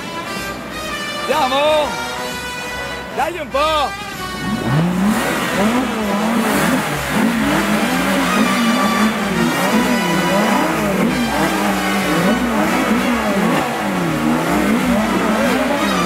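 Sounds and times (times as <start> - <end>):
sports car engine revving: 3.1 - 16.0.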